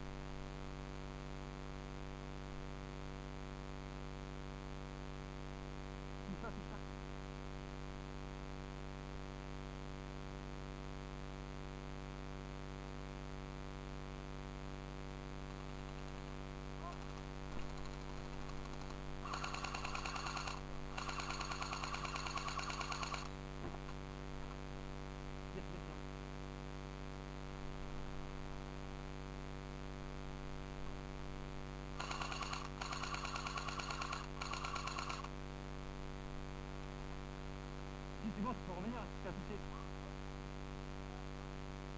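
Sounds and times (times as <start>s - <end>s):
constant hiss: 0.0s - 41.9s
electrical hum: 0.0s - 41.9s.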